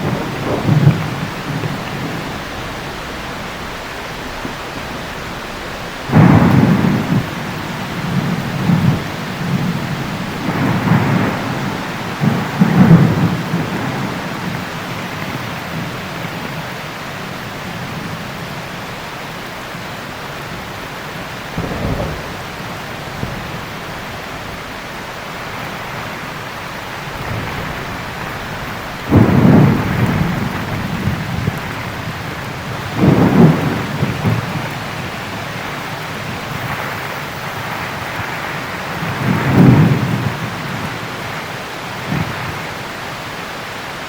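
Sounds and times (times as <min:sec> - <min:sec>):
thunder cracks: 0:00.0 - 0:16.5, 0:20.6 - 0:41.0
heavy rain: 0:00.0 - 0:44.0.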